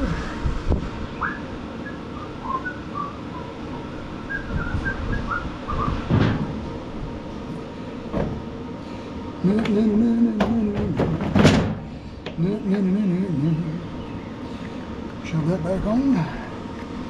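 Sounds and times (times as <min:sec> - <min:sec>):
shop fan noise: 0:00.0 - 0:17.0.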